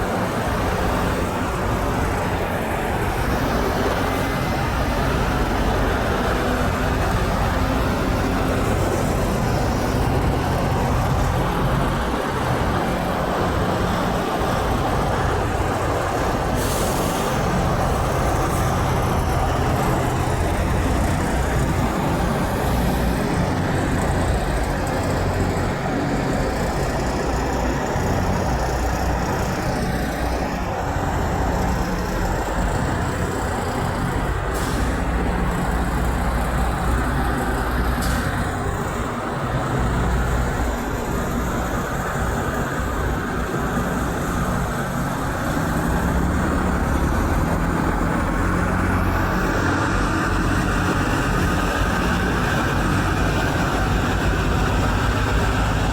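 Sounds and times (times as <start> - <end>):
heavy road traffic: 0.0 - 55.9.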